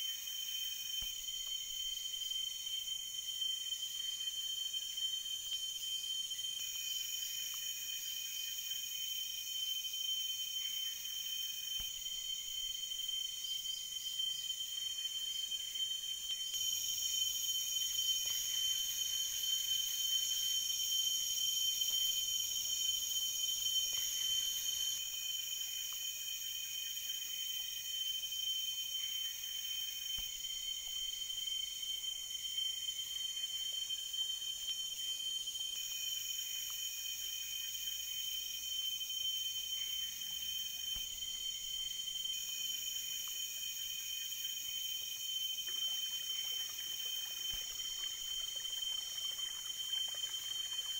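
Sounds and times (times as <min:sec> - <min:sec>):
insects high-pitched drones: 0:00.0 - 0:50.9.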